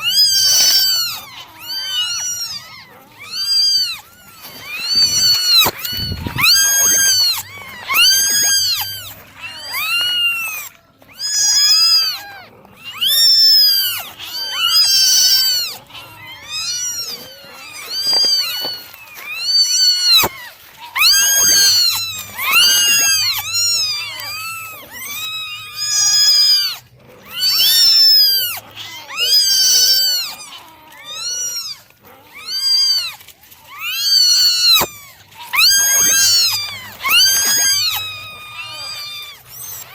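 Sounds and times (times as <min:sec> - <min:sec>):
kittens meowing: 0:00.0 - 0:39.9.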